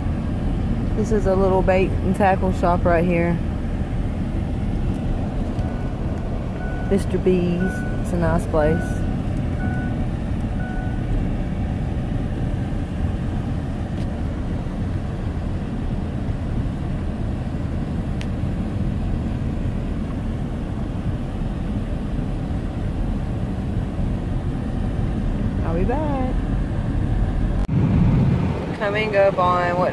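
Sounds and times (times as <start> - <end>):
car interior road rumble: 0.0 - 29.9.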